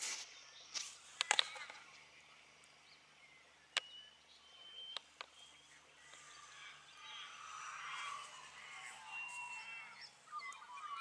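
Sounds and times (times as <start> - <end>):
faint bird calls: 0.1 - 11.0.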